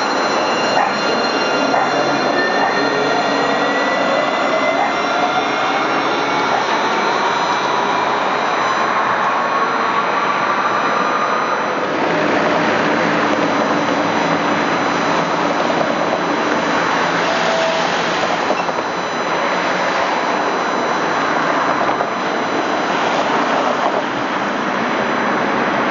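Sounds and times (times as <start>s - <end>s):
tram electric drive whining: 0.0s - 25.9s
tram wheel rushing noise: 0.0s - 25.9s.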